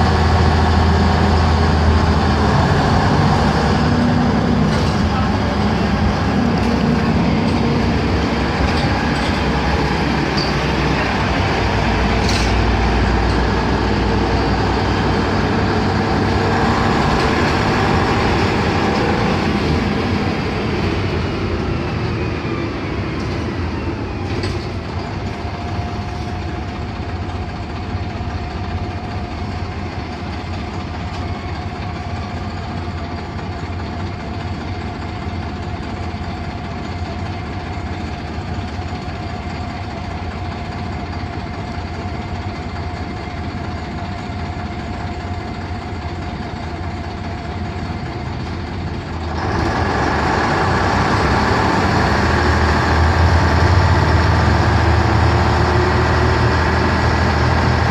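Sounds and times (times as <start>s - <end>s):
diesel bus engine idling: 0.0s - 57.9s.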